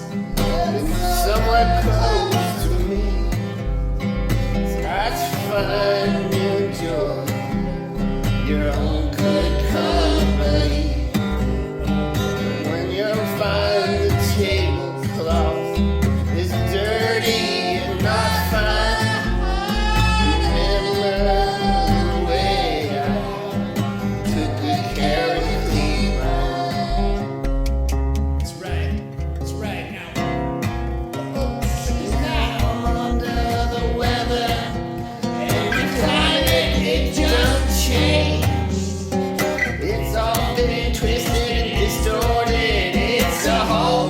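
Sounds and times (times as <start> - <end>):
person singing: 0.0 - 3.8, 4.7 - 7.8, 8.4 - 11.5, 12.3 - 27.4, 31.4 - 44.0
steady low bass: 0.0 - 17.0, 17.7 - 29.6, 35.5 - 43.7
acoustic guitar: 0.0 - 44.0.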